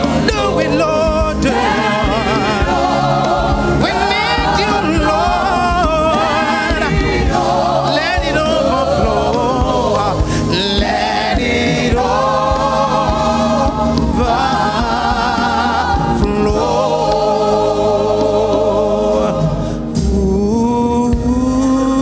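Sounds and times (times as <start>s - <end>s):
band with drums: 0.0s - 22.0s
gospel choir singing: 0.0s - 22.0s.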